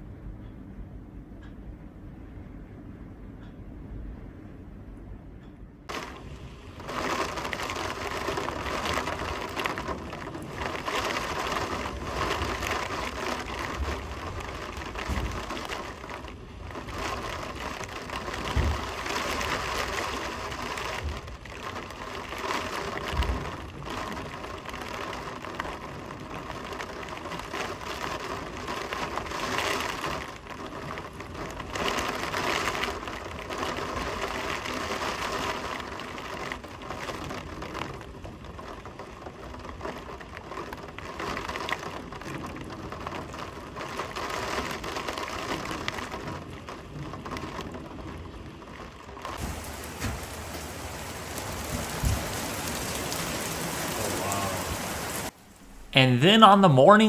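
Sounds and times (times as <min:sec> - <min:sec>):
heavy rain in strong wind: 0:05.9 - 0:57.0.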